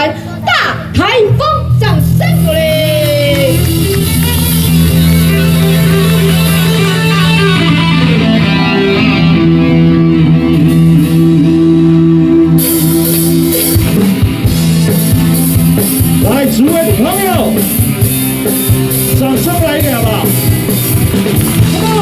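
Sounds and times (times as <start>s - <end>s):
bass notes: 0.0s - 22.0s
electric guitar: 0.0s - 22.0s.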